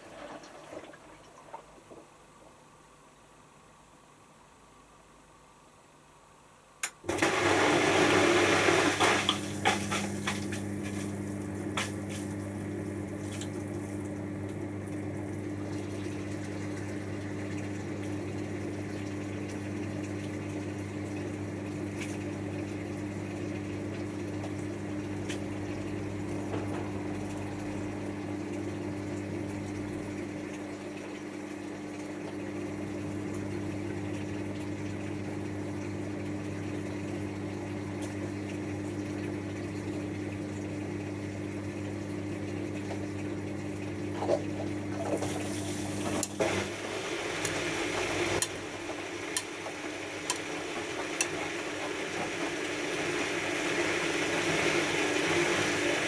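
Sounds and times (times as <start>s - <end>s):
washing machine water rushing: 0.0s - 2.8s, 7.0s - 56.0s
washing machine humming: 0.0s - 56.0s.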